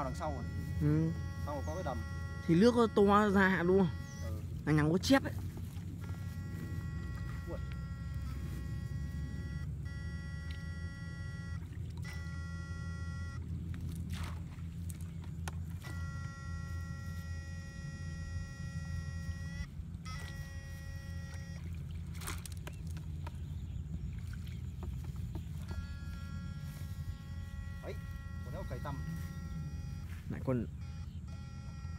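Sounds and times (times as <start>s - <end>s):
high electronic whine: 0.0s - 13.9s, 15.0s - 22.0s, 25.3s - 31.9s
low steady hum: 0.0s - 31.9s.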